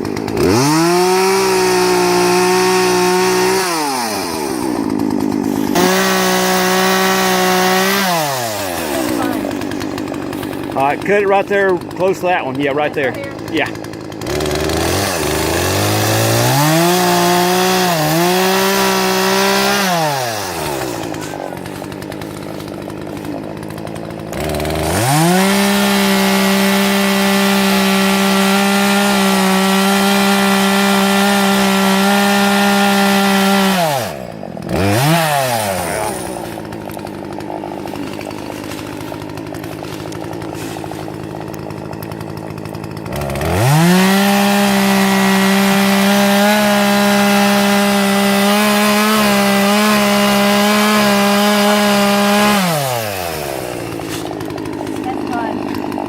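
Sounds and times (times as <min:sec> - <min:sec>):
chainsaw cutting a tree: 0:00.0 - 0:56.0.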